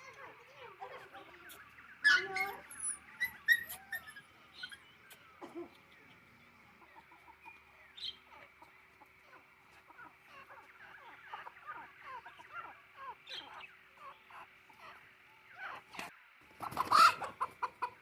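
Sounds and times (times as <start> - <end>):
chickens clucking and peeping: 0.0 - 18.0.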